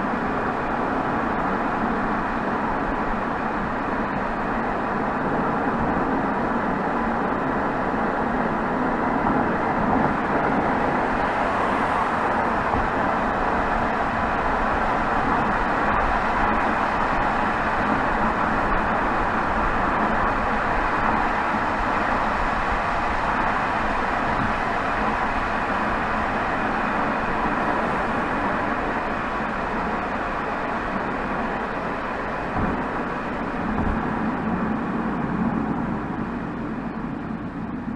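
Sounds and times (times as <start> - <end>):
diesel car exhaust cruising: 0.0 - 37.9
road noise rushing: 0.0 - 37.9.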